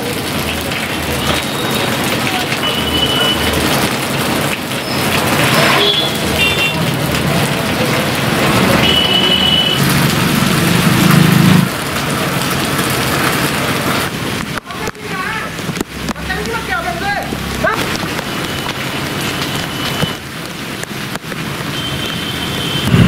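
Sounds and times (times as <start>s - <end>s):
traffic on wet street: 0.0s - 23.0s.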